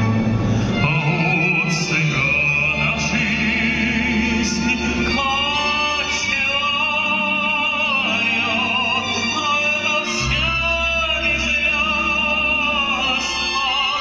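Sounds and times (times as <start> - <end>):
accordion music: 0.0 - 14.0
man singing: 0.7 - 14.0.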